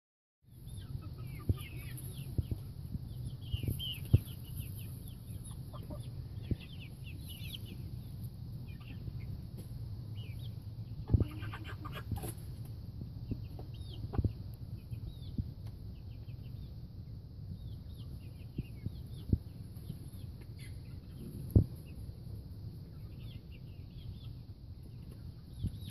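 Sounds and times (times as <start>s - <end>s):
chickens clucking: 0.5s - 25.9s.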